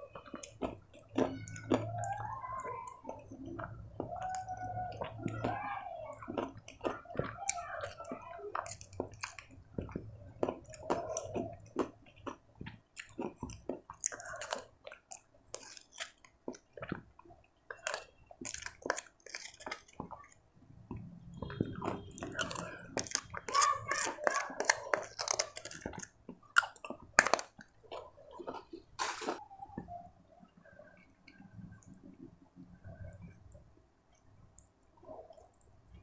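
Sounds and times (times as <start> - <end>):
chewing with mouth clicks: 0.0 - 5.6, 6.2 - 30.0.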